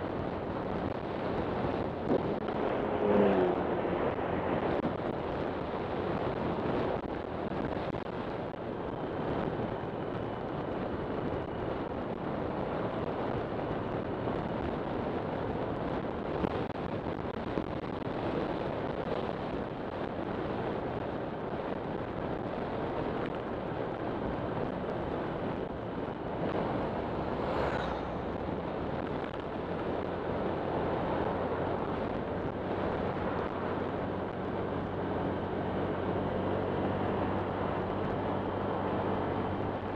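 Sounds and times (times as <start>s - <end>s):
road noise: 0.0s - 39.9s
wind on microphone: 0.0s - 39.9s.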